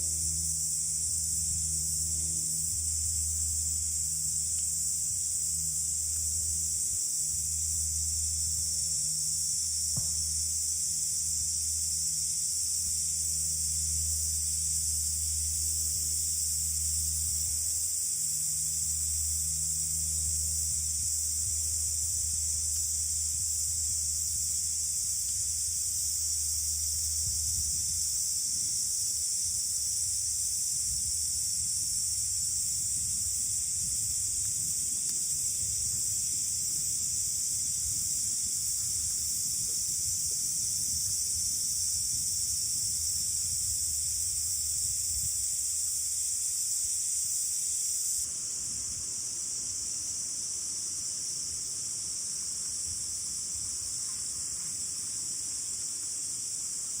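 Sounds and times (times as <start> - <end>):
wind rumble on microphone: 0.0 - 50.0.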